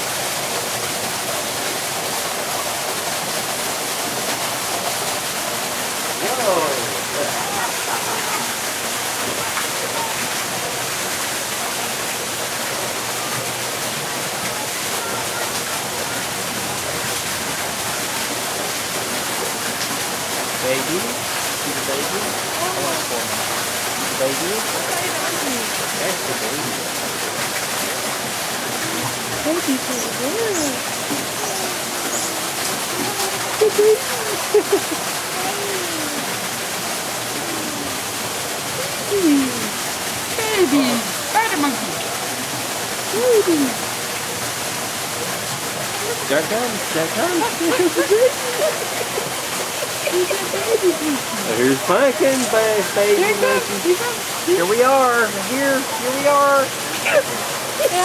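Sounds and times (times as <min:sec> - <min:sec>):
faint voices: 0:06.2 - 0:12.1, 0:12.9 - 0:17.1, 0:20.5 - 0:44.3, 0:45.2 - 0:58.0.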